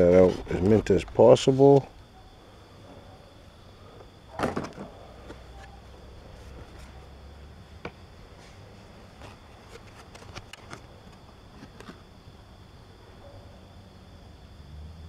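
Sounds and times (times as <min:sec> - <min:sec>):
faint high-pitched hum: 0:00.0 - 0:15.0.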